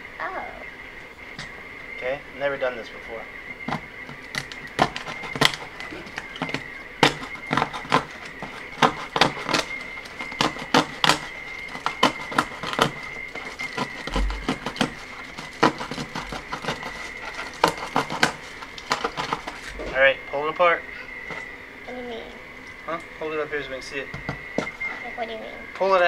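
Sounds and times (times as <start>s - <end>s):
steady high-pitched tone: 0.0s - 26.0s.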